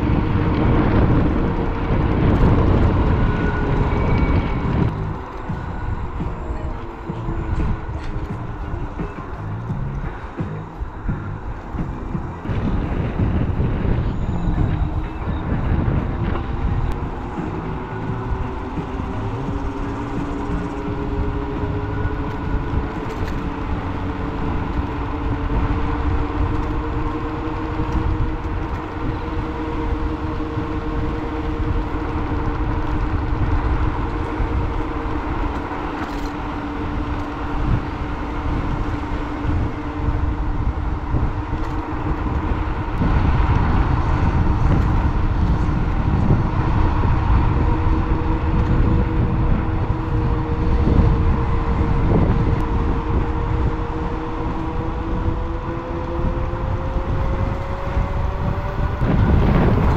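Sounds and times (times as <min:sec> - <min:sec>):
road and wind rumble: 0:00.0 - 0:59.9
vehicle motor droning: 0:00.0 - 0:59.9.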